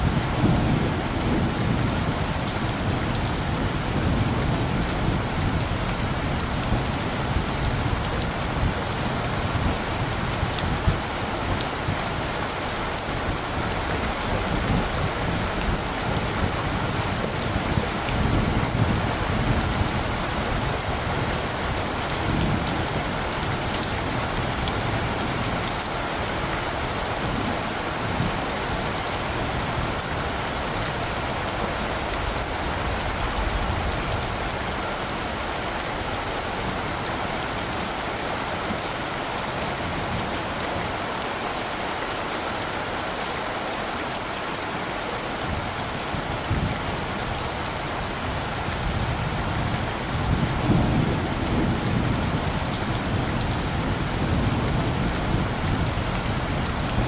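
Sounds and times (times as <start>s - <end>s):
light thunder rumbling: 0.0s - 40.8s, 45.4s - 57.0s
rain pattering on surfaces: 0.0s - 57.0s.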